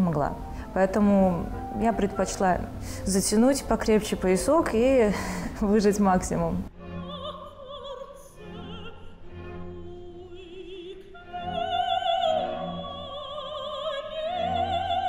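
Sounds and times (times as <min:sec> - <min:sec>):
operatic soprano singing: 0:00.2 - 0:15.0.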